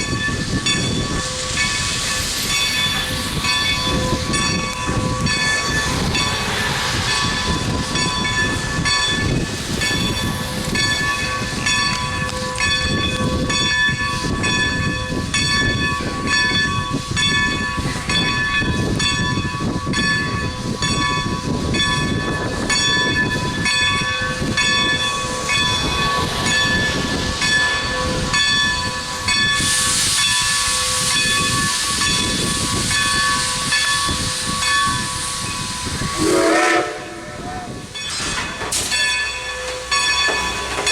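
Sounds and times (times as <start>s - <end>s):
loud hiss of steam: 0.0s - 40.9s
steam locomotive exhaust beat: 0.0s - 40.9s.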